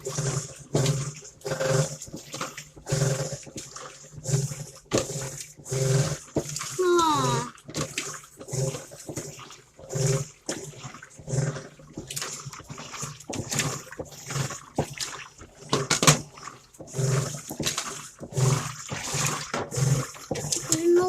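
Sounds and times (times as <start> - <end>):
washing machine grinding: 0.0 - 21.0
water sloshing: 0.0 - 21.0.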